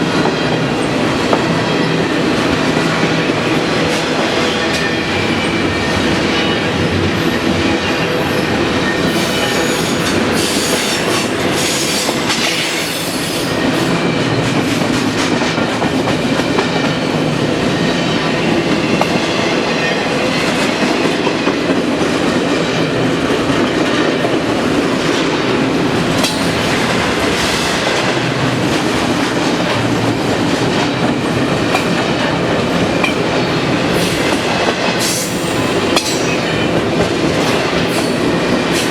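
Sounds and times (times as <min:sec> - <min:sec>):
freight train wheels clacking: 0:00.0 - 0:38.9.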